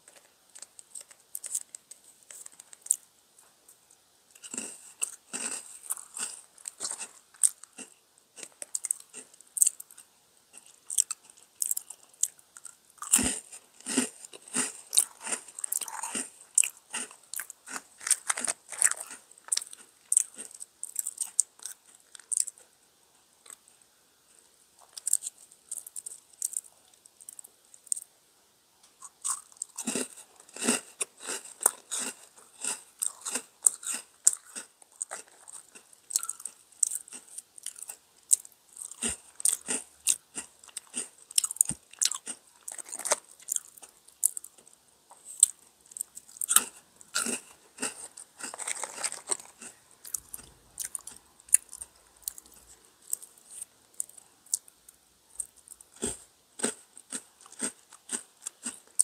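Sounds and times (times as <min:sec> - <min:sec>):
person chewing crunchy cookies: 0:00.0 - 0:03.1, 0:03.8 - 0:22.8, 0:23.4 - 0:23.8, 0:24.8 - 0:28.1, 0:28.9 - 0:59.0.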